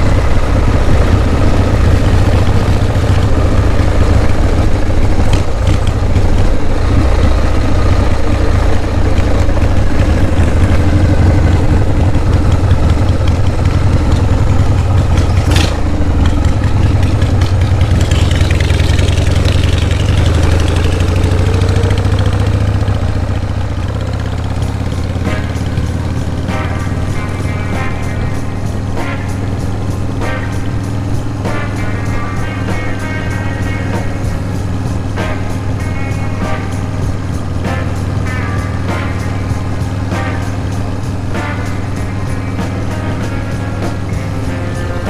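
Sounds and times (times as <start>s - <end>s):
motorcycle engine rumbling: 0.0s - 45.0s.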